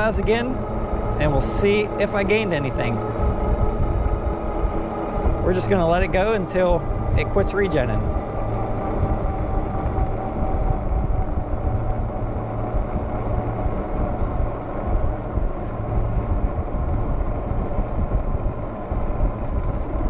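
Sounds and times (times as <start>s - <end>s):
faint steady motor whine: 0.0s - 20.0s
tires rolling on pavement: 0.0s - 20.0s
wind buffeting microphone: 0.0s - 20.0s.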